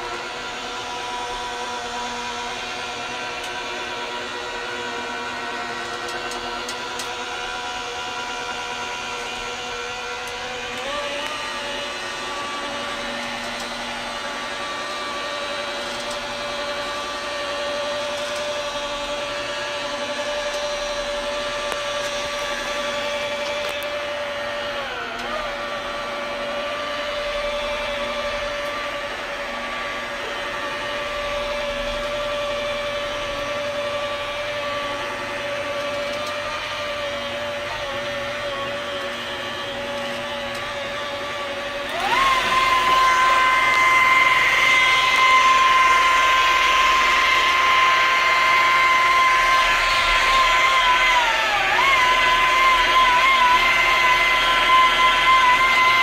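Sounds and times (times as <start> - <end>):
power tool motor whining: 0.0 - 56.0.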